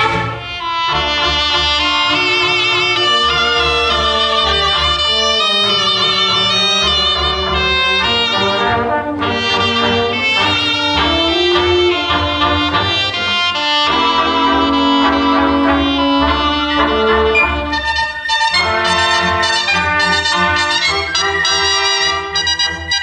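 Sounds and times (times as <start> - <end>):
wind band playing folk dance: 0.0 - 23.0.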